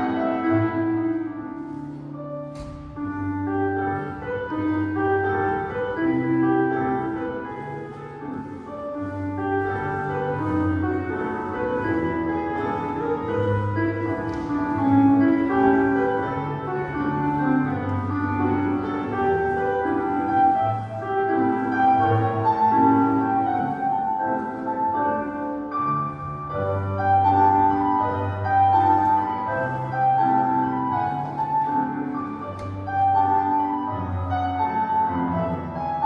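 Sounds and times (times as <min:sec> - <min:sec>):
classical piano music: 0:00.0 - 0:36.0.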